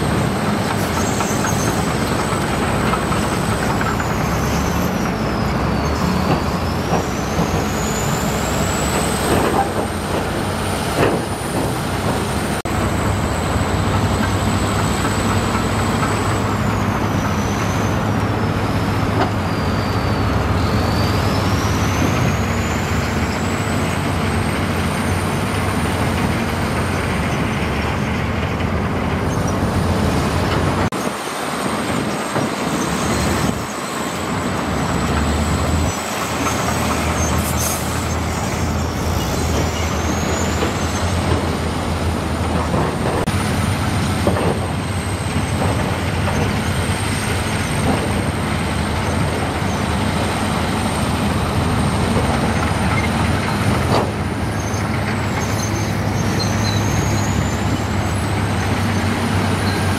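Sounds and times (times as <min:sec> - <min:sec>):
deep diesel engine drone: 0:00.0 - 0:59.9.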